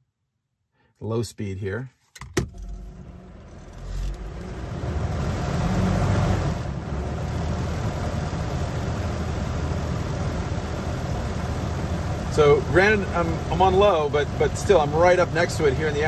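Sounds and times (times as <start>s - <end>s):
fan rushing air with low hum: 2.8s - 16.0s.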